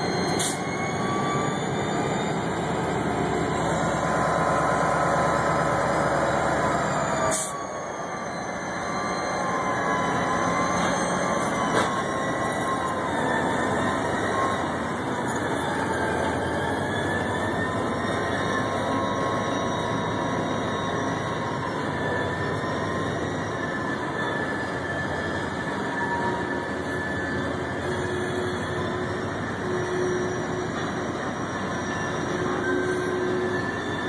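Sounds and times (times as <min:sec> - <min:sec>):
freight train rumbling: 0:00.0 - 0:34.0
wheel flange squeal: 0:00.0 - 0:34.0.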